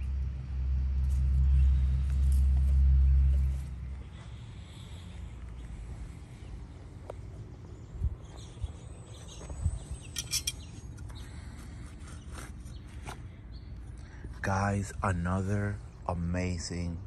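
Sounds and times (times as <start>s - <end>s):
low outdoor rumble: 0.0s - 17.0s
birds chirping: 3.1s - 17.0s.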